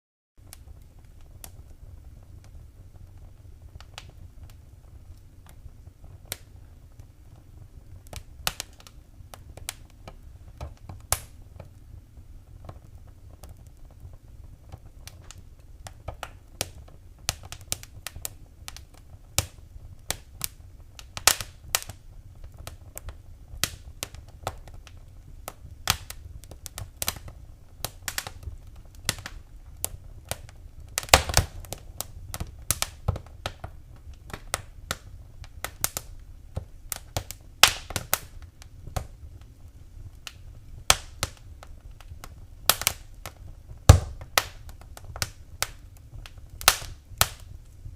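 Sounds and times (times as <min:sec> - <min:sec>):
wood fire crackling: 0:00.4 - 0:47.9.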